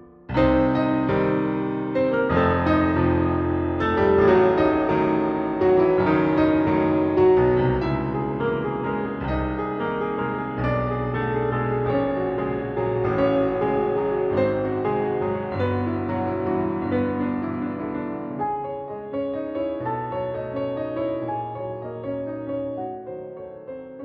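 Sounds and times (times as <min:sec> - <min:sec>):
piano background music: 0:00.0 - 0:24.0.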